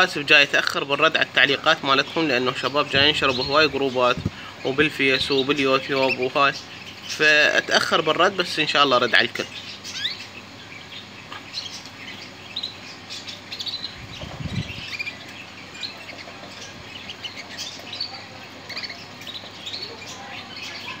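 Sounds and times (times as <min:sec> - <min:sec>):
canaries chirping: 0:00.0 - 0:21.0.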